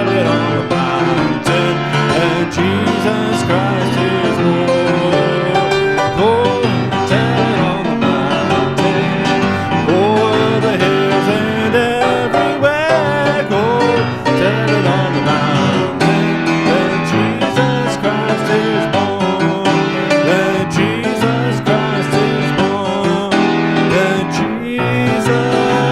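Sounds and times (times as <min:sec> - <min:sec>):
country instrumental music: 0:00.0 - 0:25.9.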